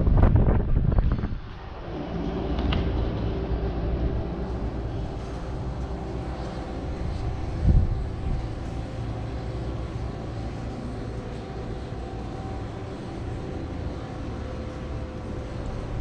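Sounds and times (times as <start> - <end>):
aircraft engine drone: 0.0 - 16.0
humming tones: 0.0 - 16.0
low rumble: 0.0 - 16.0.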